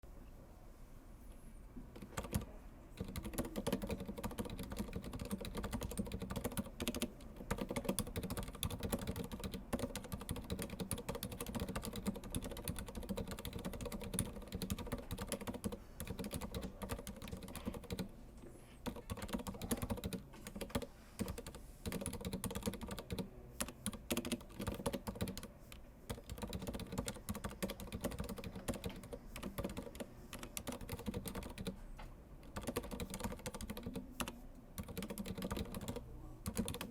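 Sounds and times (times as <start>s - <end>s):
muted keyboard typing: 1.9s - 18.1s, 18.8s - 31.8s, 32.4s - 36.9s.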